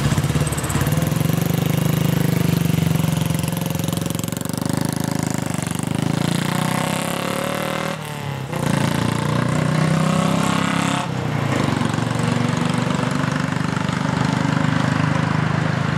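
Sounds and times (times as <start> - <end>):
motorcycle engines running: 0.0 - 15.9.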